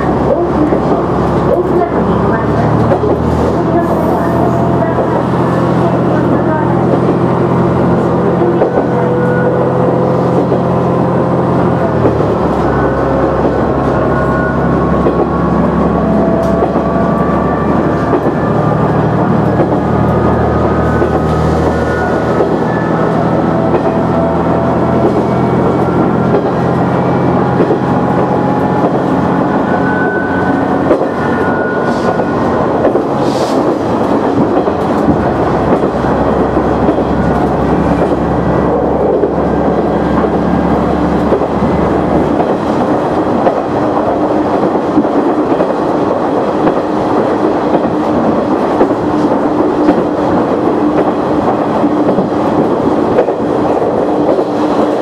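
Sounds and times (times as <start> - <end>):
wheels rumbling on rails: 0.0 - 55.0.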